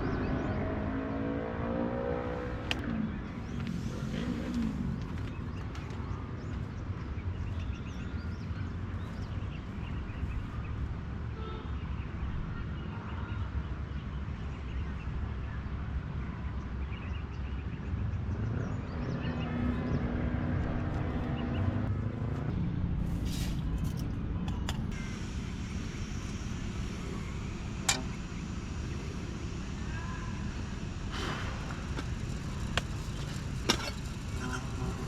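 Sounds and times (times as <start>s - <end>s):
vehicle engine rumbling: 0.0s - 11.4s, 17.8s - 35.0s.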